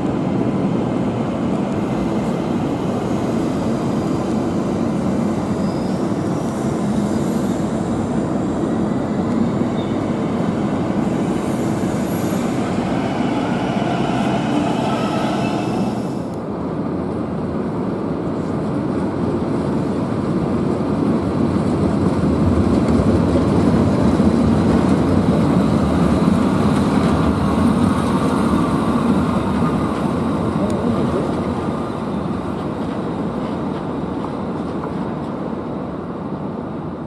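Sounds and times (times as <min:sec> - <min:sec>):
train rumbling along track: 0:00.0 - 0:37.0.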